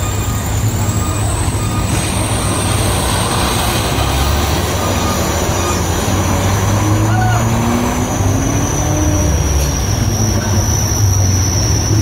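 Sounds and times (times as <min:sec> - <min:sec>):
heavy vehicle engine drone: 0:00.0 - 0:12.0
road noise: 0:00.0 - 0:12.0.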